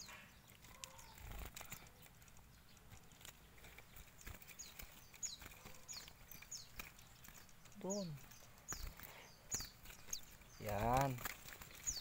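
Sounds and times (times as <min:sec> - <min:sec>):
high falling bird chirps: 0:00.0 - 0:12.0.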